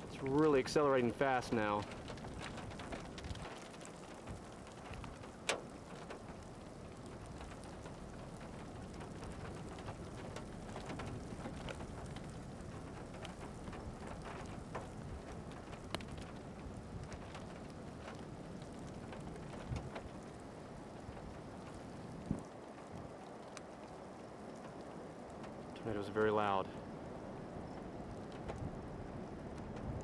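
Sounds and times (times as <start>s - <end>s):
tornado roar: 0.0s - 30.0s.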